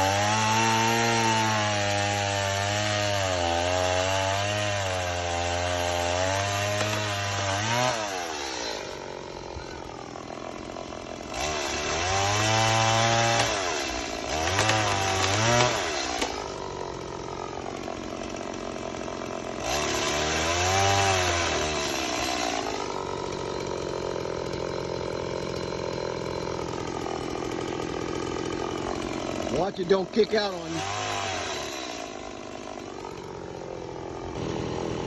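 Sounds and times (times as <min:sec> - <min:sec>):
chainsaw revving: 0:00.0 - 0:35.0.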